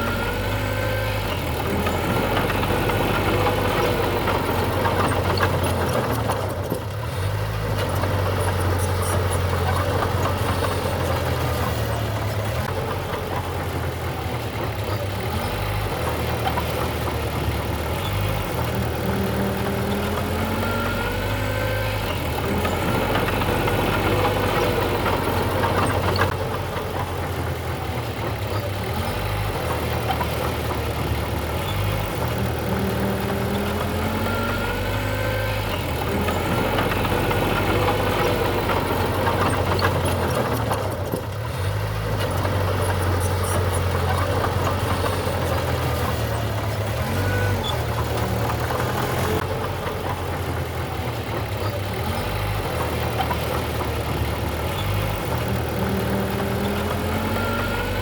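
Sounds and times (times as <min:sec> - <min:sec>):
bulldozer engine running: 0:00.0 - 0:58.0.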